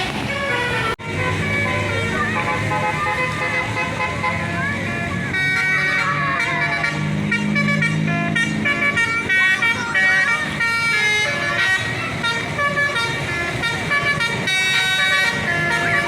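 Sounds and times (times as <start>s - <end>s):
bus engine running: 0.0s - 16.0s
multi-tone bus horn melody: 0.0s - 16.0s
people calling out: 1.3s - 16.0s.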